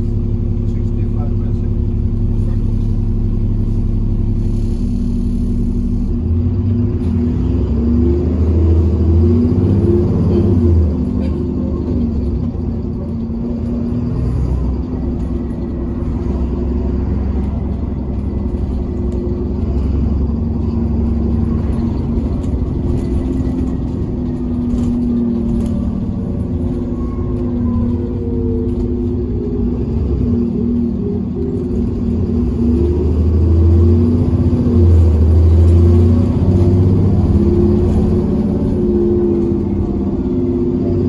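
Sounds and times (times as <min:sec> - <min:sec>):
bus engine rumbling: 0:00.0 - 0:41.0
gearbox whine: 0:00.0 - 0:41.0.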